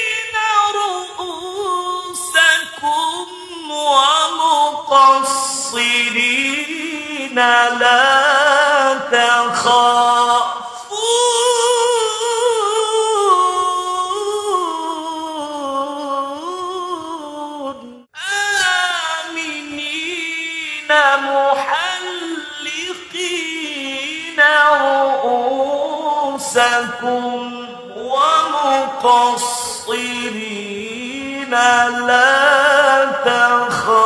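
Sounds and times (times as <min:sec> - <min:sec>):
person chanting recitation: 0:00.0 - 0:34.0.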